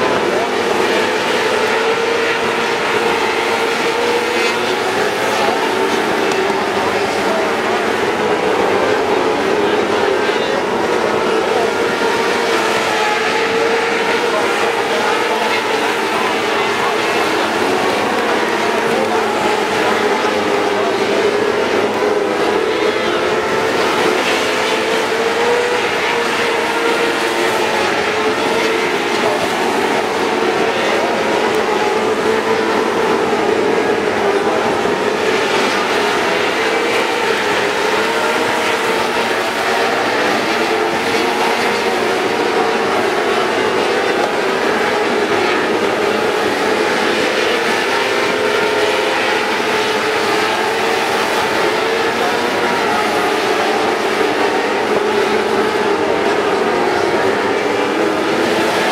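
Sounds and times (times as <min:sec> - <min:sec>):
racing car engines droning: 0:00.0 - 0:58.9.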